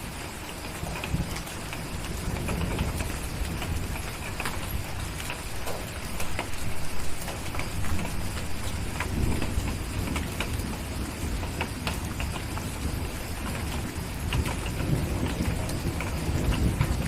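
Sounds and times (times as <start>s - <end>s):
low thunder rumble: 0.0s - 17.0s
steady rain hiss: 0.0s - 17.0s.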